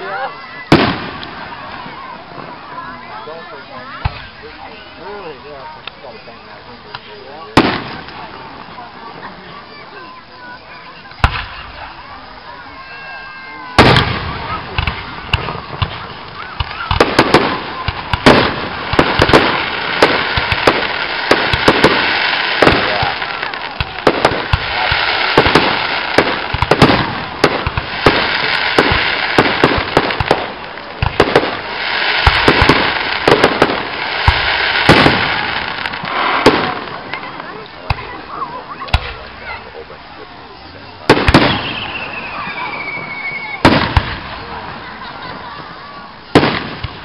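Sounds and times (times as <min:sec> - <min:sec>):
fireworks bangs and pops: 0:00.0 - 0:03.2, 0:03.9 - 0:09.8, 0:10.4 - 0:40.0, 0:40.6 - 0:47.0.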